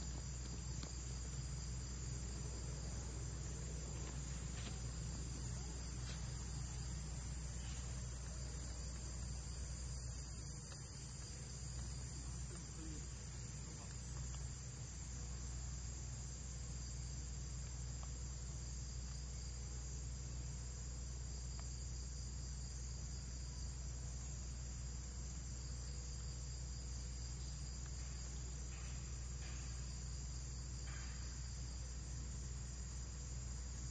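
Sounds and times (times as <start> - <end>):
insects chirring: 0.0 - 33.9
low steady hum: 0.0 - 33.9.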